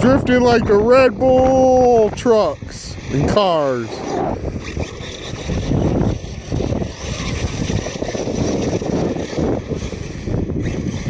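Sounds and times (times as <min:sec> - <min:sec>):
electric rc truck driving: 0:00.0 - 0:11.0.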